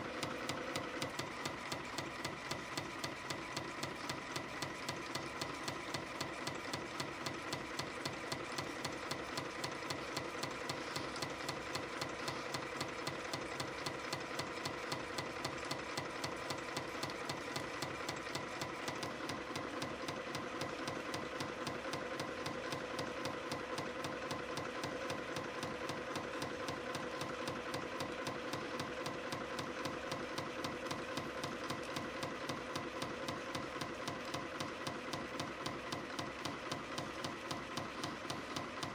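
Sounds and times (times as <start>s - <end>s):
steady whine of servo drives: 0.0s - 38.9s.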